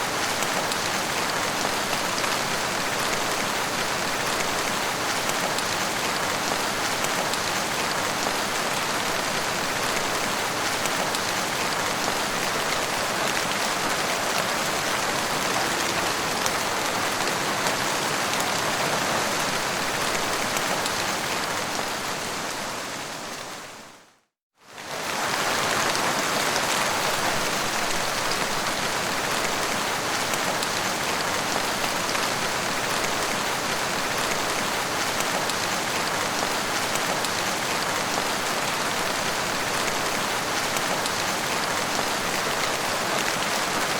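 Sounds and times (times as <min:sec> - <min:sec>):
dense rainfall: 0:00.0 - 0:43.9.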